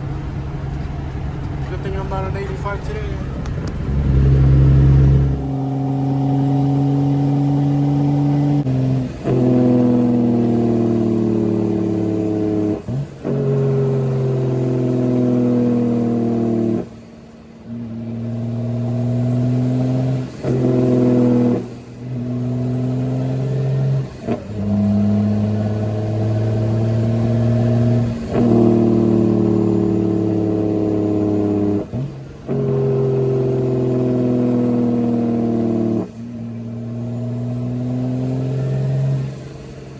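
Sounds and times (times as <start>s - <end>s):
diesel truck changing gears: 0.0s - 39.9s.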